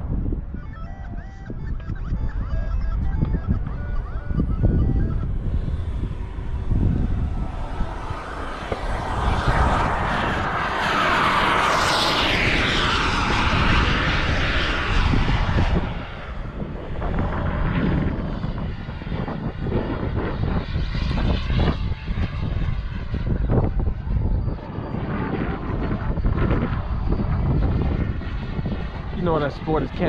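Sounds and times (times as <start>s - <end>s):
model airplane engine whine: 0.0s - 30.0s
wind rumble on microphone: 0.0s - 30.0s.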